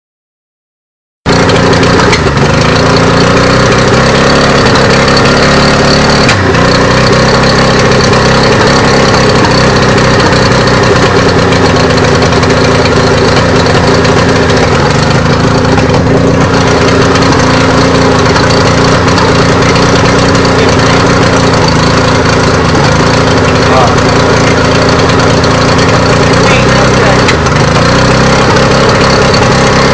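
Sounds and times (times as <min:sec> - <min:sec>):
outboard motor idling roughly: 0:01.3 - 0:29.9
short engine chirp: 0:01.3 - 0:29.9.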